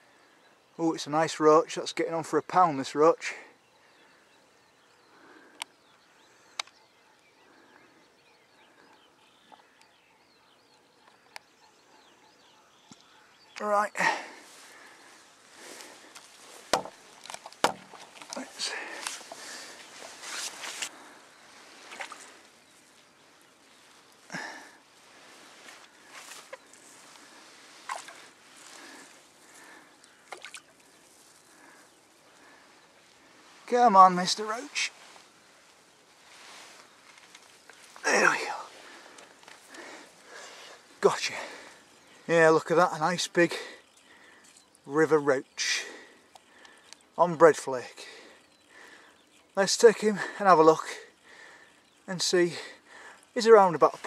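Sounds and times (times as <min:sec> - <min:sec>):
faint birdsong chirps: 0:00.0 - 0:54.0.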